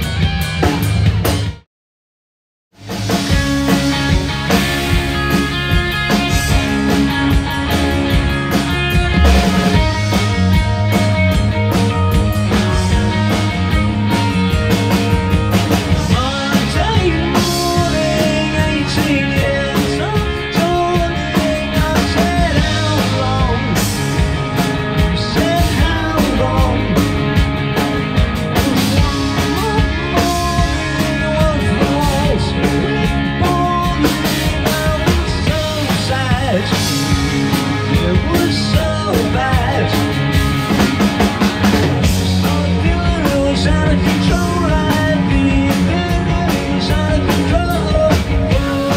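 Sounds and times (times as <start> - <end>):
electric bass: 0.0 - 1.6, 2.7 - 48.9
electric guitar: 0.0 - 1.6, 2.8 - 48.9
drum kit: 0.0 - 1.7, 2.7 - 48.9.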